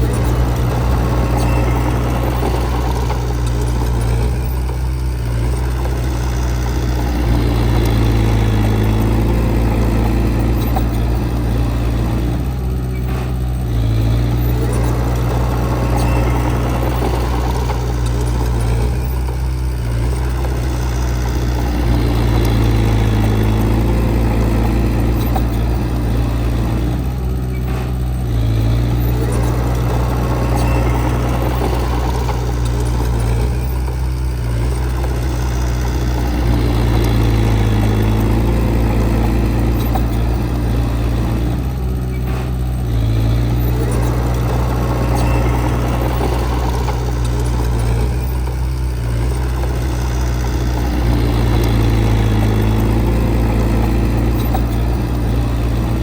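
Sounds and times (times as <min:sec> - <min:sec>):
heavy machine diesel engine: 0:00.0 - 0:56.0.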